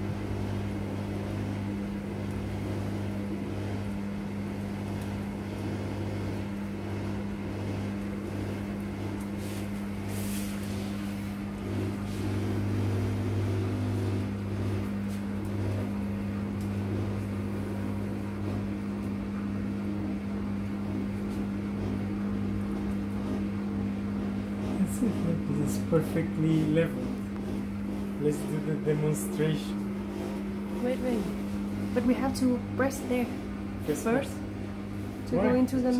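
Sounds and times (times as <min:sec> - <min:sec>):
drum motor humming: 0:00.0 - 0:35.9.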